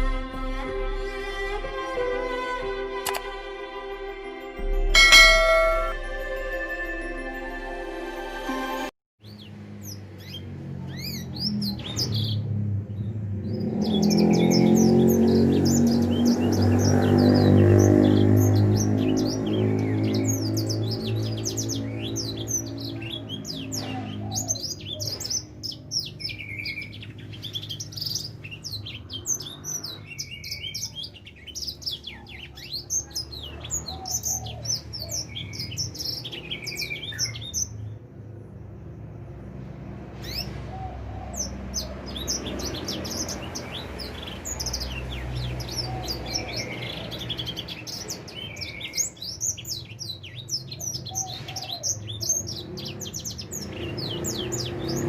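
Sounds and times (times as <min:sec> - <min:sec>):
finch singing twittering trills: 0:09.2 - 0:38.6, 0:40.2 - 0:55.0.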